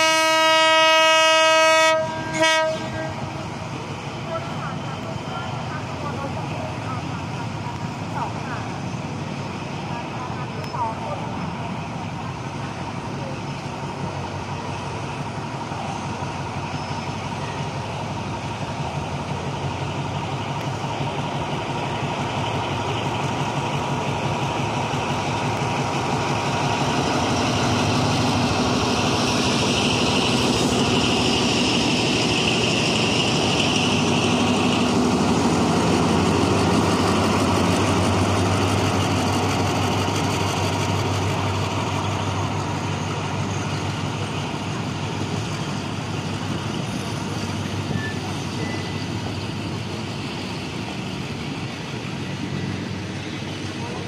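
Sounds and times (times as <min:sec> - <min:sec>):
locomotive engine: 0:00.0 - 0:54.0
train rolling past: 0:00.0 - 0:54.0.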